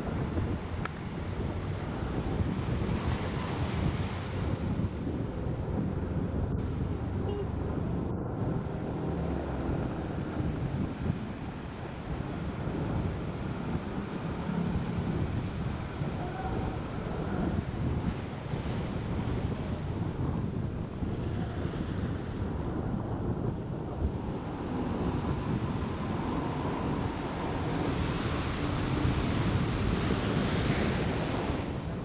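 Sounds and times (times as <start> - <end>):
sea waves washing: 0.0 - 32.0
wind rumbling on microphone: 0.0 - 32.0.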